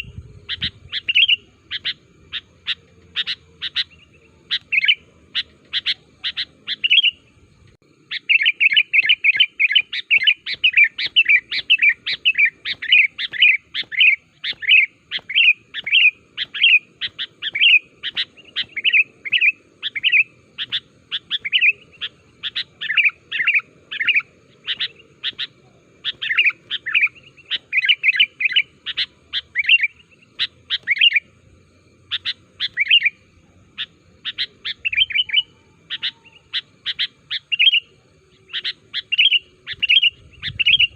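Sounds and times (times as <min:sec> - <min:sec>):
bulbul calling in sharp notes: 0:00.0 - 0:07.4, 0:08.0 - 0:31.4, 0:32.0 - 0:40.9.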